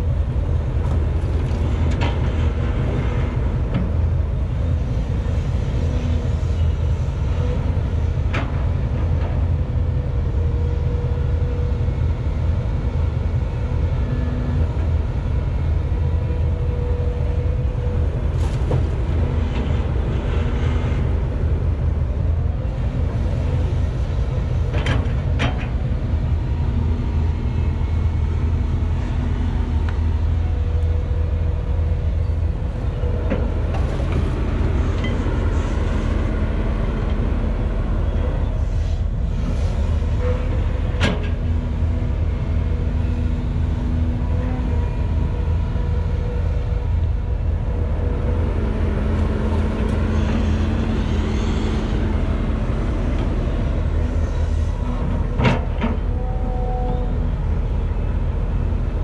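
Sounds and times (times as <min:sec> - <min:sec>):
excavator diesel engine rumbling: 0:00.0 - 0:59.0.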